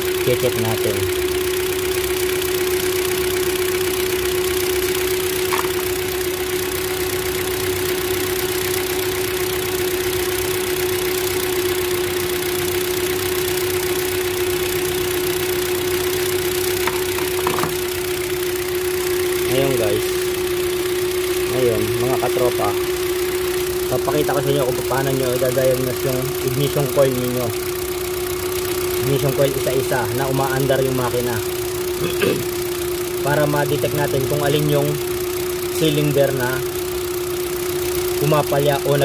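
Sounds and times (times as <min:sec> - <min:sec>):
car engine idling roughly: 0:00.0 - 0:39.0.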